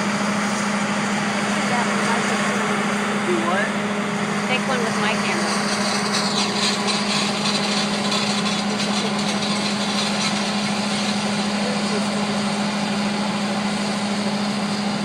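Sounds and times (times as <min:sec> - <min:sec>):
farm machinery engine droning: 0:00.0 - 0:15.0.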